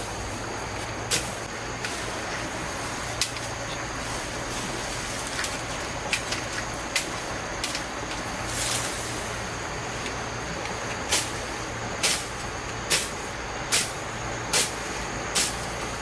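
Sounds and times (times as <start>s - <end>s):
steady hiss and low hum: 0.0s - 16.0s.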